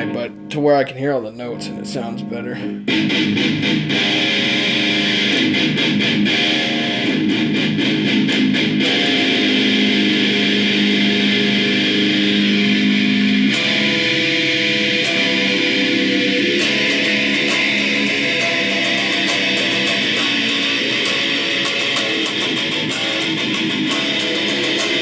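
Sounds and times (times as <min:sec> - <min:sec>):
electric guitar picked notes: 0:00.0 - 0:25.0
ringing guitar chord: 0:00.0 - 0:25.0.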